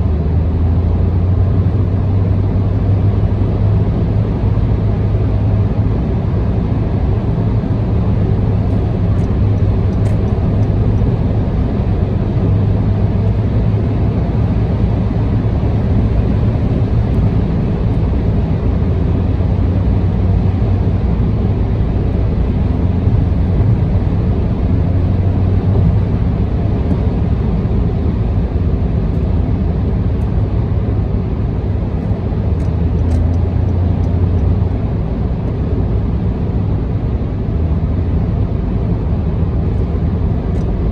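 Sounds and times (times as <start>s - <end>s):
car engine: 0.0s - 40.9s
tyre road noise: 0.0s - 40.9s.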